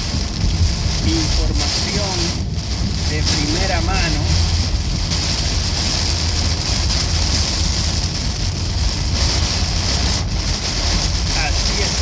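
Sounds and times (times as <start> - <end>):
rain hissing: 0.0 - 12.0
wind buffeting microphone: 0.0 - 12.0.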